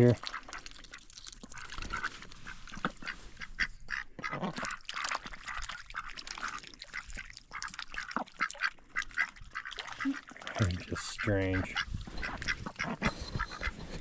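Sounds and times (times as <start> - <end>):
ducks quacking: 1.5 - 14.0.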